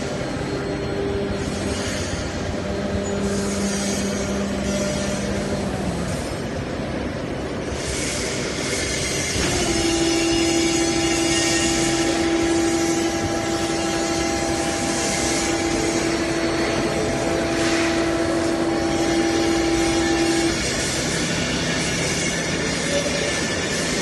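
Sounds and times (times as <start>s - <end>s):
machine whine: 0.0s - 24.0s
machinery hum: 0.0s - 24.0s.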